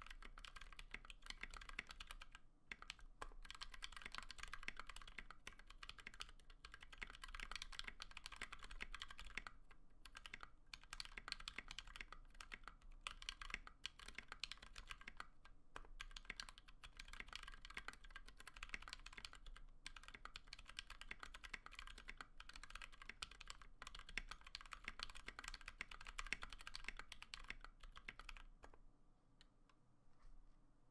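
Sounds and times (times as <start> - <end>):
fast mechanical keyboard typing: 0.0 - 28.5.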